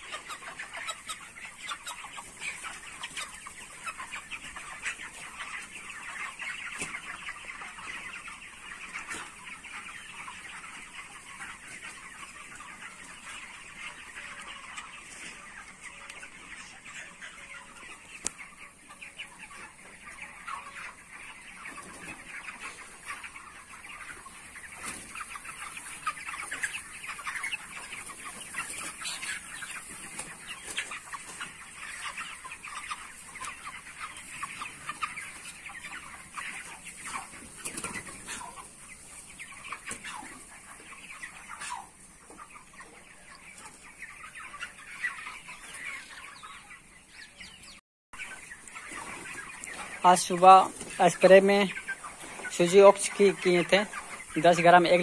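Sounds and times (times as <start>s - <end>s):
chickens clucking and peeping: 0.0s - 55.0s.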